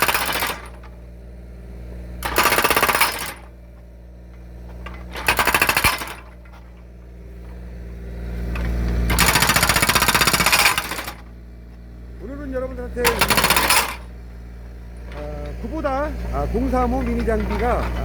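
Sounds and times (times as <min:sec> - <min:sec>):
excavator engine running: 0:00.0 - 0:18.0
hydraulic breaker hammering logs: 0:00.0 - 0:18.0.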